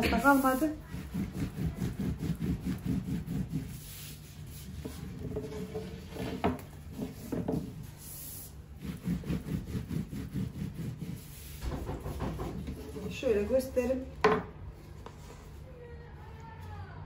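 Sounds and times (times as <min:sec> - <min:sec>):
rolling pin rolling over dough: 0:00.0 - 0:15.2.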